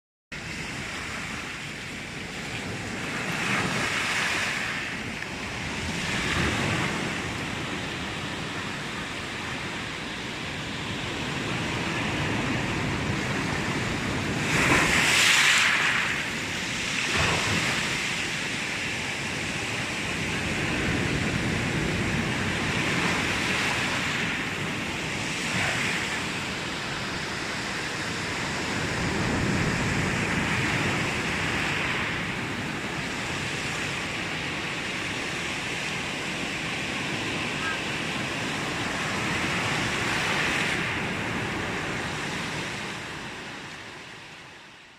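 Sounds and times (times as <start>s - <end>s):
sea waves washing onto shore: 0.4s - 44.9s.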